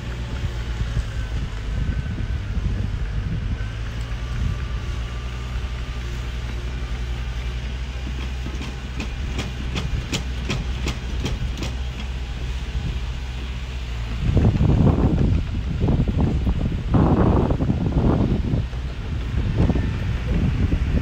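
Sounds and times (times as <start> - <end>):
bulldozer diesel engine running: 0.0 - 21.0
crawler tracks clanking: 0.0 - 21.0
wind noise on microphone: 0.0 - 21.0.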